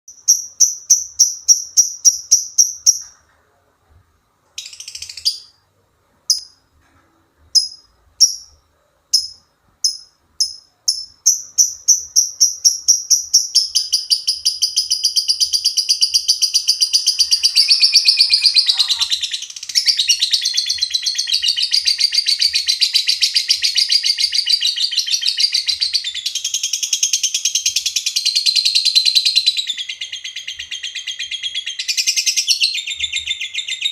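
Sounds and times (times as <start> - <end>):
lovebird chirping and trilling: 4.6 - 5.6, 7.6 - 33.9.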